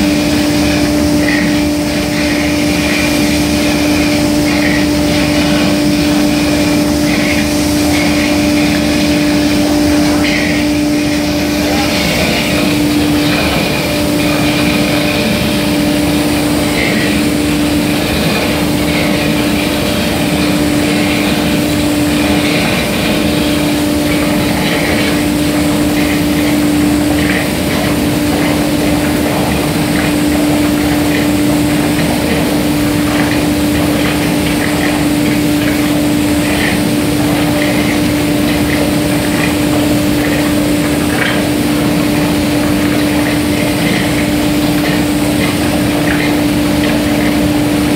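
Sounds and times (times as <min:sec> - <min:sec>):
steady machine hum: 0:00.0 - 0:47.9.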